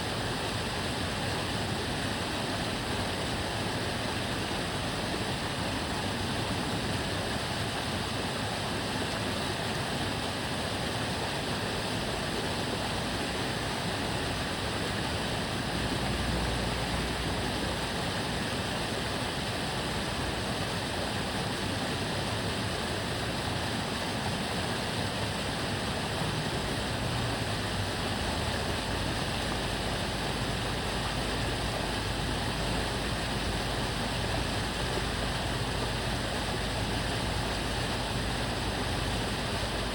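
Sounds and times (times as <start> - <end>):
water babbling: 0.0 - 39.9.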